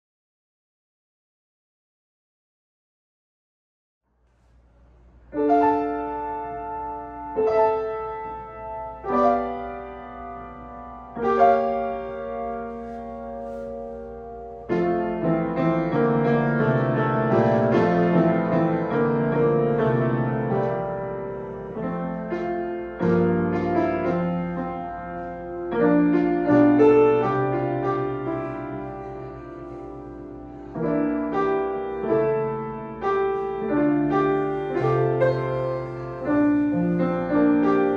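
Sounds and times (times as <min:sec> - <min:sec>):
piano playing: 0:05.2 - 0:37.9
piano rattle: 0:05.2 - 0:37.9.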